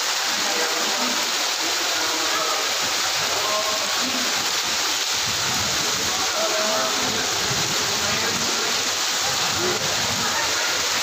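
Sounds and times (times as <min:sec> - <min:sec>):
heavy rain on standing water: 0:00.0 - 0:11.0.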